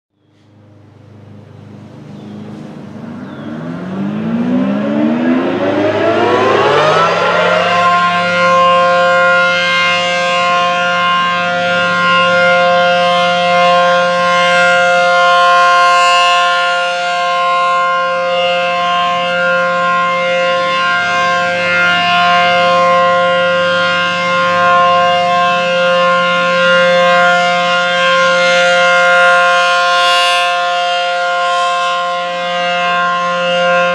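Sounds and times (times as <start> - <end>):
rotating warning siren: 0.3 - 33.9.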